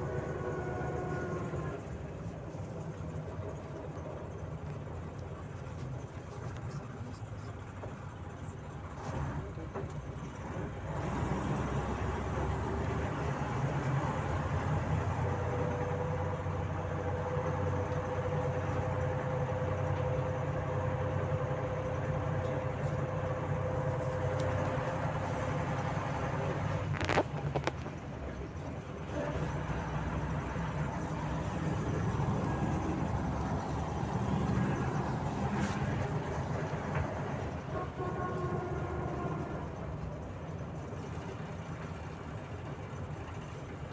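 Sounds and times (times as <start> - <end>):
bus engine rumble: 0.0 - 43.9
road noise: 0.0 - 43.9.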